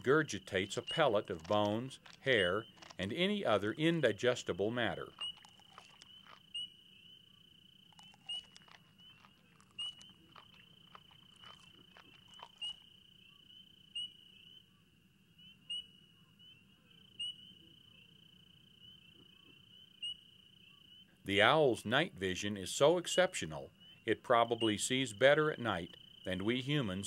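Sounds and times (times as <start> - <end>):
insect chirp: 0.0 - 27.0
insects trilling: 0.0 - 27.0.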